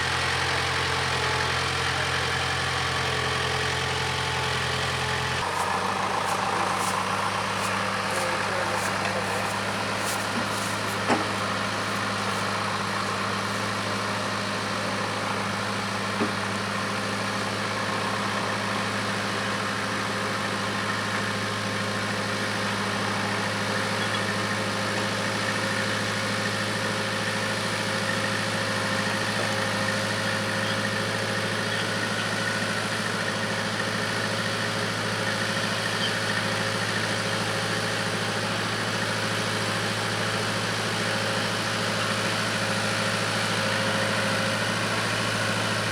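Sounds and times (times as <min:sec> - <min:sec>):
backhoe engine idling: 0:00.0 - 0:45.9.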